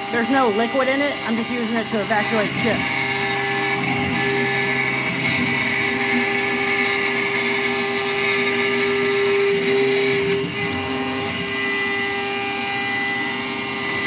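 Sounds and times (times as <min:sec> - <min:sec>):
milling machine cutting whine: 0:00.0 - 0:14.0.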